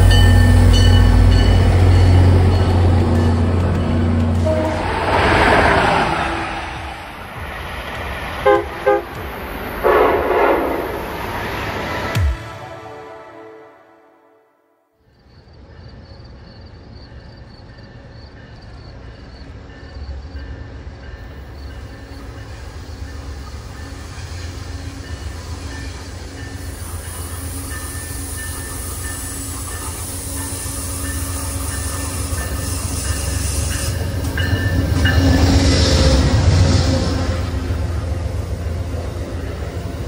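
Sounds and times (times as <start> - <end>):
passenger train rumbling past: 0.0 - 14.4, 15.2 - 40.0.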